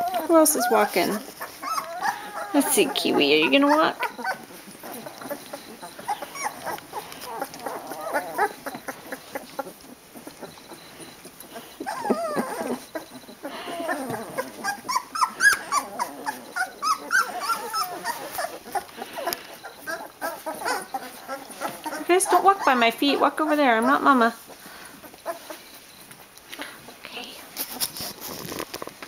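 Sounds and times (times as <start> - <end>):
puppies whimpering and squeaking: 0.0 - 28.7.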